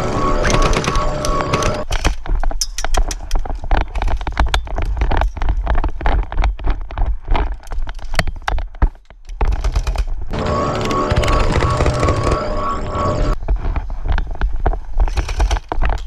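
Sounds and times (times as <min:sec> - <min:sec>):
sharp clicks and knocks: 0:00.4 - 0:12.4, 0:13.4 - 0:16.0.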